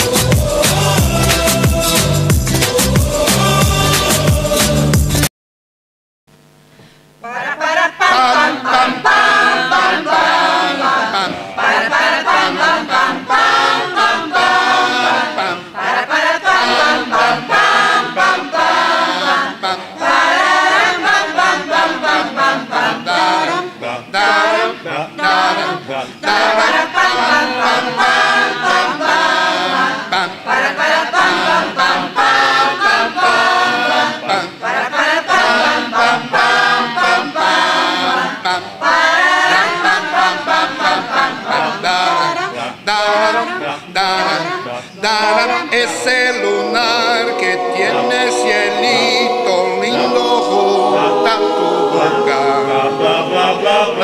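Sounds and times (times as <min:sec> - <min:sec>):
mixed choir singing a cappella: 0:00.0 - 0:05.3, 0:07.2 - 0:54.0.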